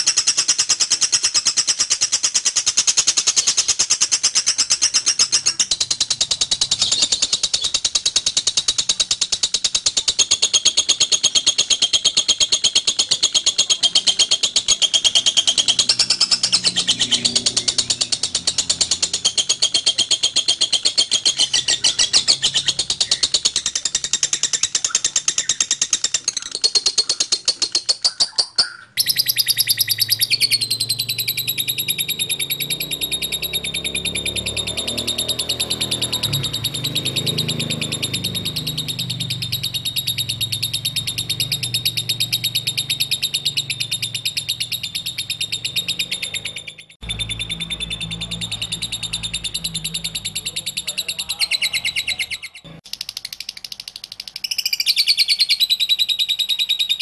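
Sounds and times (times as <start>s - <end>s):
lovebirds chattering song: 0.0s - 57.0s.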